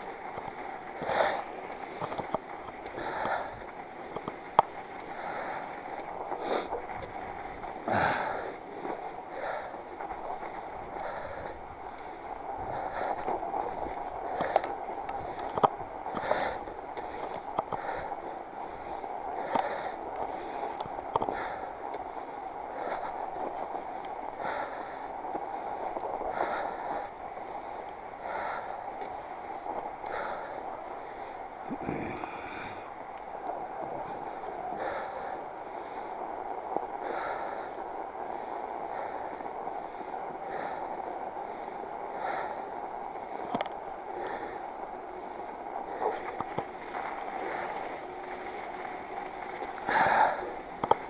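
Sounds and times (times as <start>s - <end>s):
bike clicking: 0.0s - 51.0s
bike rolling through snow: 0.0s - 51.0s
rider breathing: 0.0s - 51.0s.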